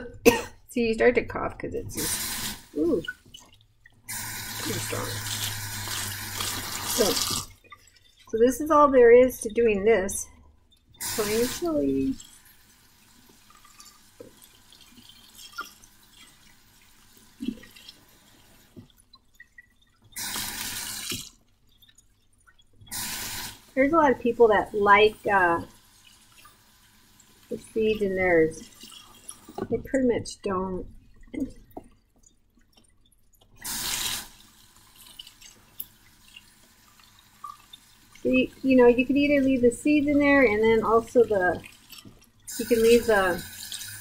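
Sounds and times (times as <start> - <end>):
faucet running water: 0.0 - 44.0.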